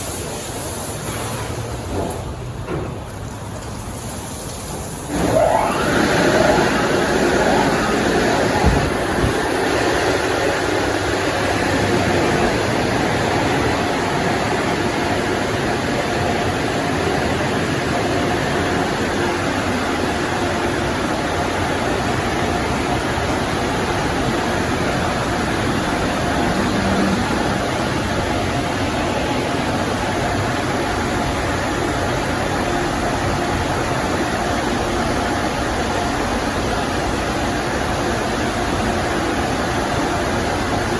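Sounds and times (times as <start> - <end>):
car wash machine rushing: 0.0 - 40.9.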